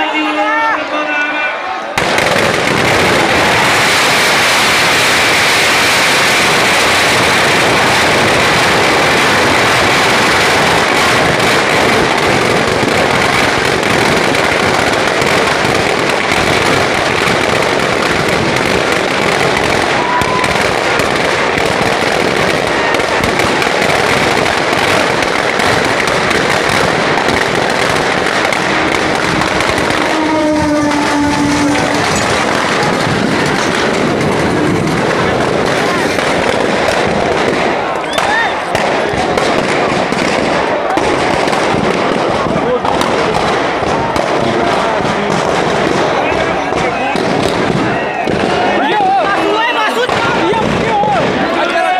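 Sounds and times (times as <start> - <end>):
firecrackers crackling: 1.9 - 51.9.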